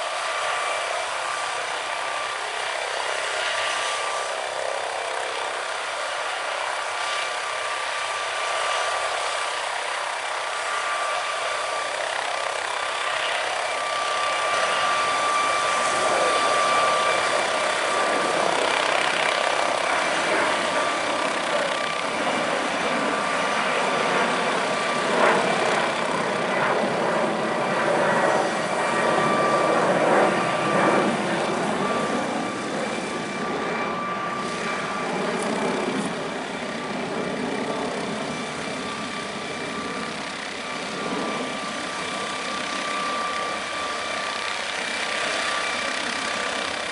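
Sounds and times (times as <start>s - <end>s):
helicopter turbine whine: 0.0s - 46.9s.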